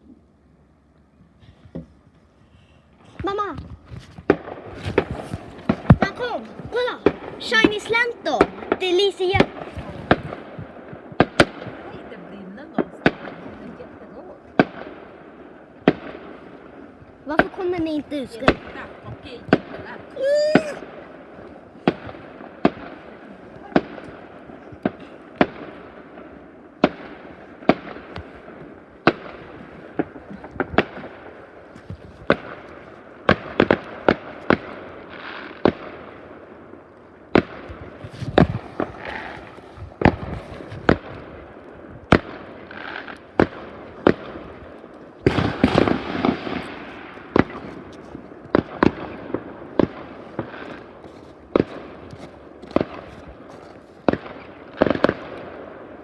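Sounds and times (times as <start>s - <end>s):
rapid crackling bangs: 3.0s - 20.2s, 20.8s - 56.0s
sharp firework bangs: 3.0s - 56.0s
distant explosions: 4.2s - 56.0s.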